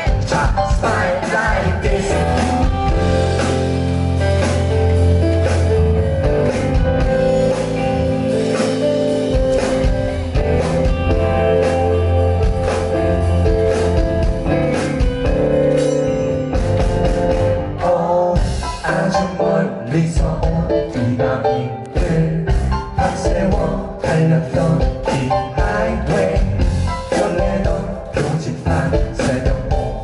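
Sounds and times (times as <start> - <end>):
live pop-rock band playing: 0.0 - 30.0.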